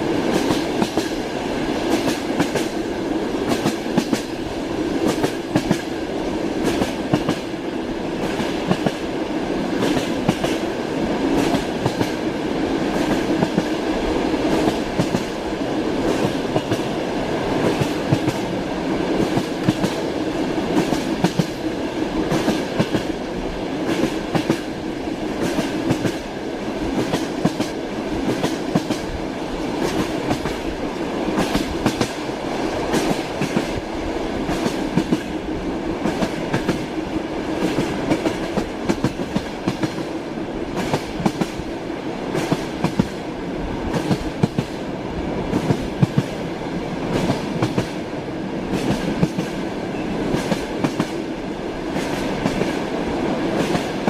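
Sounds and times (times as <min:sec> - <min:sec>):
railway carriage rumble: 0:00.0 - 0:54.0.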